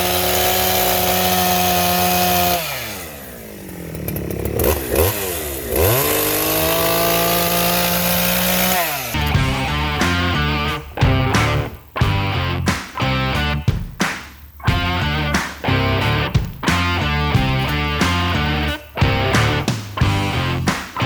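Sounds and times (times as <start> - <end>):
chainsaw revving: 0.0 - 12.5, 14.7 - 21.0.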